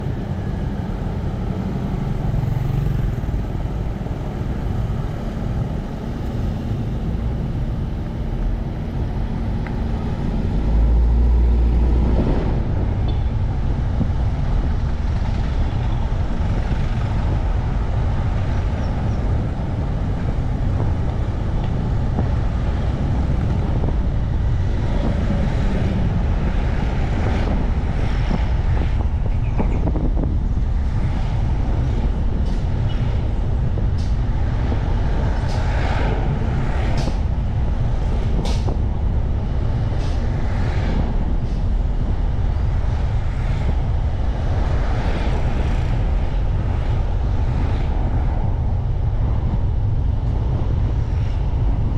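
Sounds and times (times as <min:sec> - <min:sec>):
road vehicle rumble: 0:00.0 - 0:51.9.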